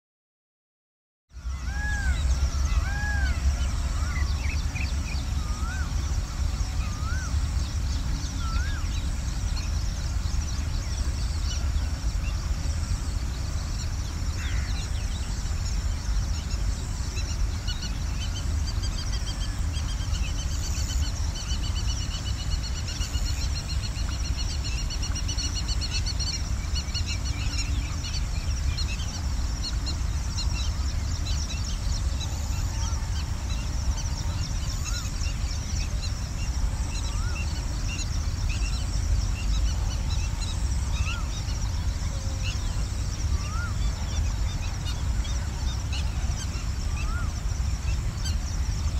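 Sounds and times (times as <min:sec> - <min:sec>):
birds chirping: 0:01.4 - 0:48.9
steady low rumble: 0:01.4 - 0:48.9.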